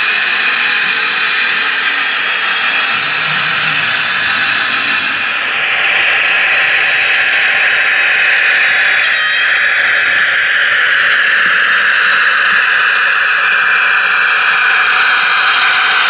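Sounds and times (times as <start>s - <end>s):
model locomotive whirring: 0.0s - 16.0s.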